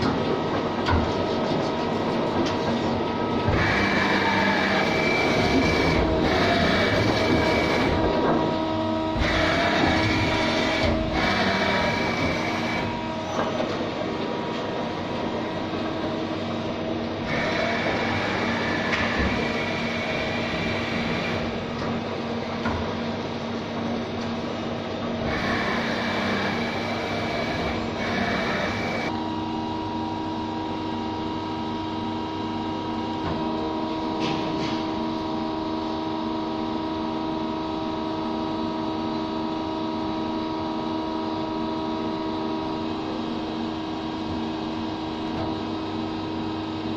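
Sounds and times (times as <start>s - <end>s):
lathe machine hum and whine: 0.0s - 46.9s.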